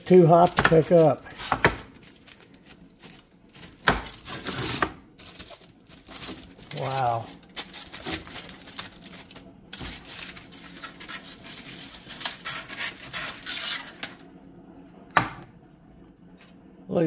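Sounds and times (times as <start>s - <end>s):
aluminium foil crinkling: 0.0s - 14.2s.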